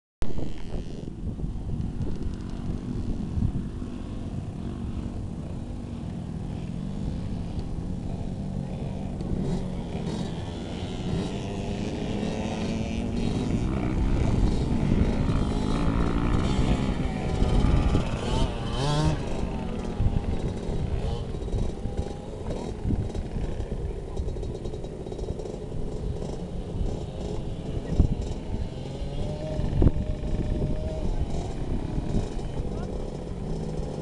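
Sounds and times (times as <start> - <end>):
motocross bike engines revving: 0.3 - 34.0.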